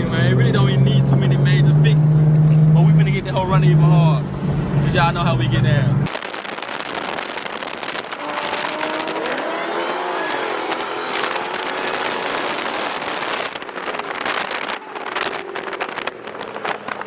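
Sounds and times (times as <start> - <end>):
car engine revving: 0.0 - 6.1, 6.8 - 17.0.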